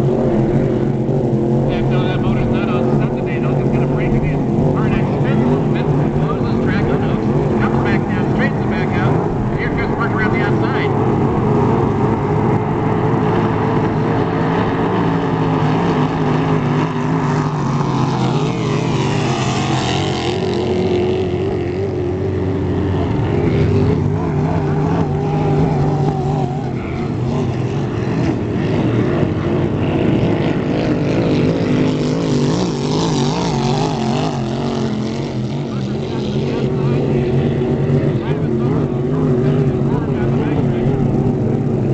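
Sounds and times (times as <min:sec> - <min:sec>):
boat passing by: 0:00.0 - 0:41.9
racing boat engines droning: 0:00.0 - 0:41.9.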